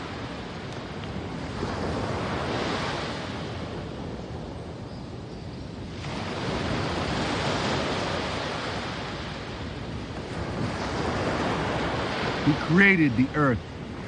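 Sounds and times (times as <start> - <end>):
waves breaking on a beach: 0.0 - 14.0.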